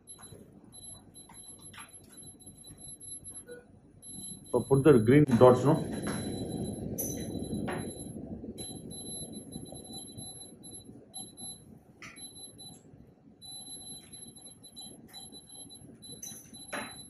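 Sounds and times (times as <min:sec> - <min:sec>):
high-pitched electronic tone: 0:00.0 - 0:12.8, 0:13.4 - 0:17.0
low room hum: 0:00.0 - 0:17.0.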